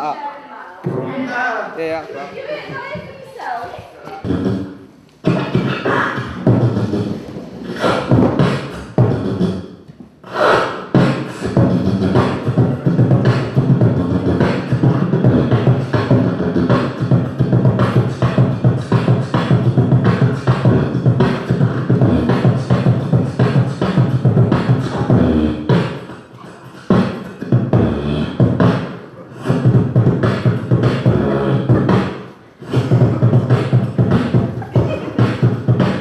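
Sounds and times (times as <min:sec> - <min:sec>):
beatboxing into microphone: 0:02.8 - 0:36.0.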